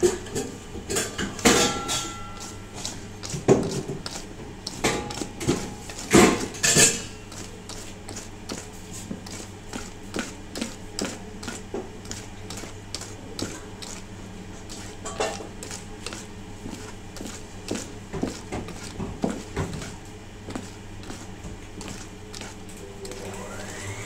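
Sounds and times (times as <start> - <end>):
steady low hum: 0.0 - 24.0
whisk clicking and scraping bowl: 0.9 - 24.0.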